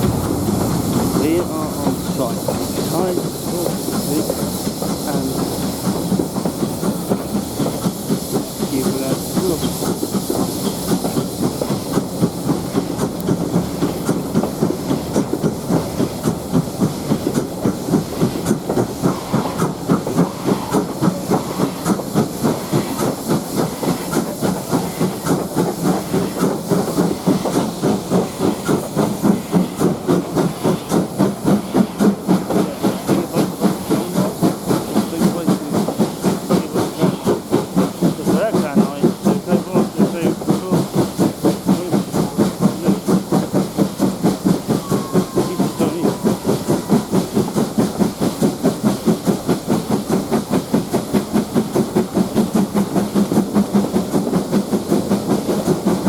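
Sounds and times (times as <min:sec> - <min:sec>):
rhythmic locomotive beat: 0:00.0 - 0:56.0
steam hissing: 0:00.0 - 0:56.0.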